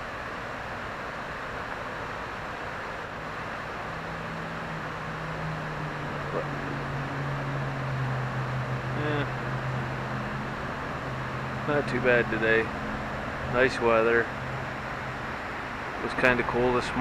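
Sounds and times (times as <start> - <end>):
water rushing: 0.0 - 17.0
passing vehicle engine drone: 3.2 - 17.0.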